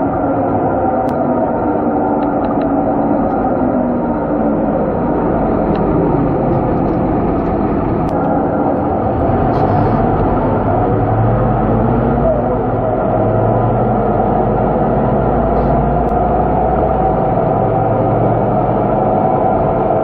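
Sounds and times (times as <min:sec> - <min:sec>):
bus engine and road drone: 0:00.0 - 0:20.0.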